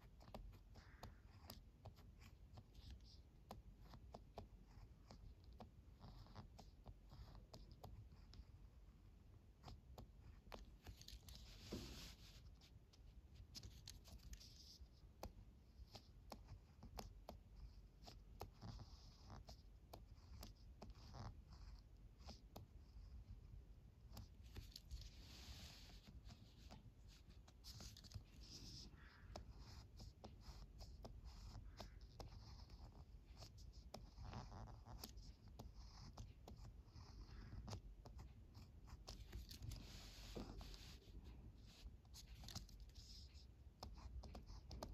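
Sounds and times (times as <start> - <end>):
pen scratching on paper: 0.0 - 44.9.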